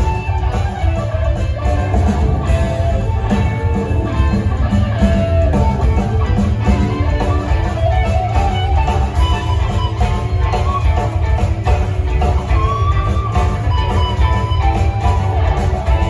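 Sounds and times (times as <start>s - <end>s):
blues rock band playing: 0.0s - 16.0s
lead guitar bending notes: 0.0s - 16.0s.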